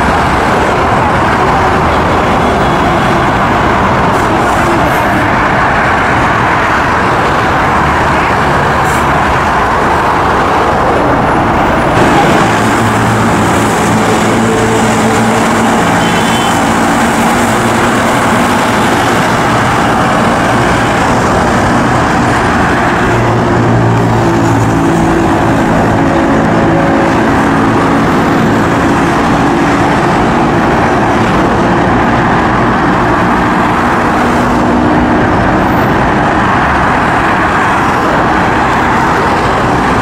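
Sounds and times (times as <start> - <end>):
train running on track: 0.0 - 40.0.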